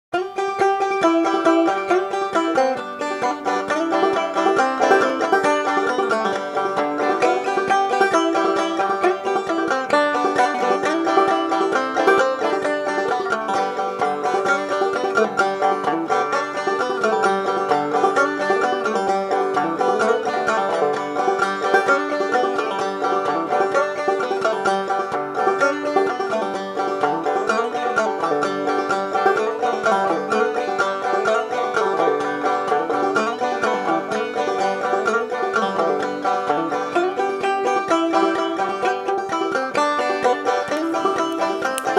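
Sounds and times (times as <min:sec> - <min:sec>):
plucked banjo tune: 0:00.1 - 0:41.9.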